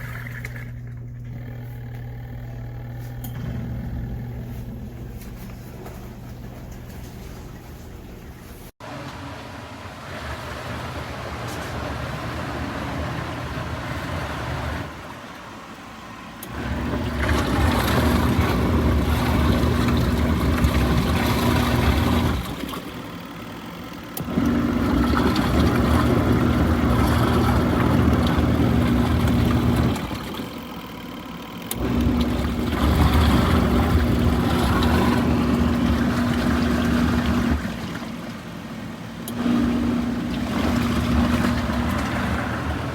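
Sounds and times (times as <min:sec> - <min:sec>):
washing machine motor churning water: 0:00.0 - 0:42.9.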